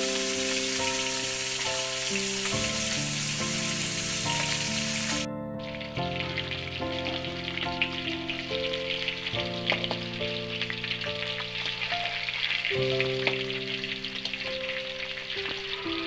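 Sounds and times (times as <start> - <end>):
fish sizzling in hot oil: 0.0 - 16.0
soft background music: 0.0 - 16.0.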